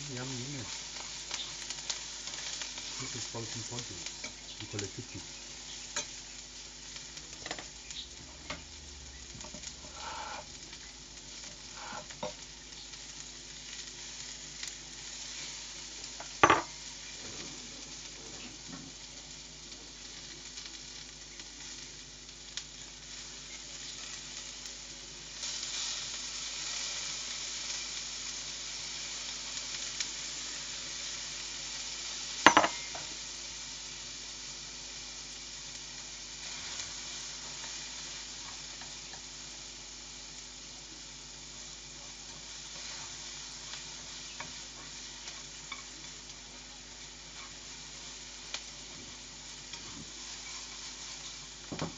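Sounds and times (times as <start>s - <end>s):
food sizzling in a frying pan: 0.0s - 51.9s.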